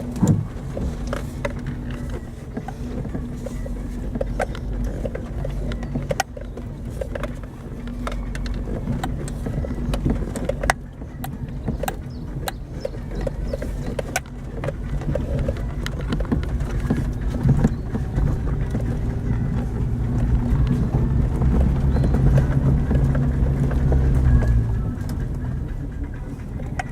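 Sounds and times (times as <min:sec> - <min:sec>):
car engine hum: 0:00.0 - 0:26.9
vehicle knocking and rattling: 0:00.0 - 0:26.9.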